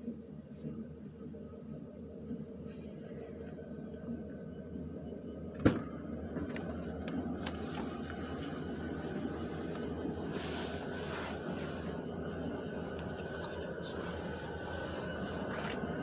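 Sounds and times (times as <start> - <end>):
diesel locomotives rumbling: 2.7 - 16.0.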